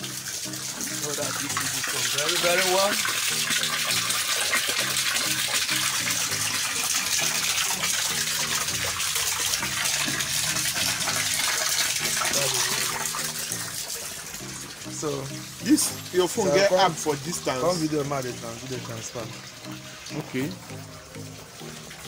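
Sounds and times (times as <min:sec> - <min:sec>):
water gushing from a hose: 0:00.0 - 0:22.0.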